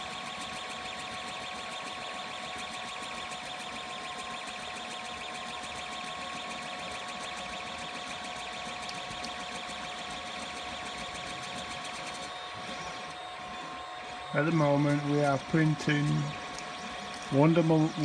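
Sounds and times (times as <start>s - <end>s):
printer motors whining: 0.0s - 18.0s.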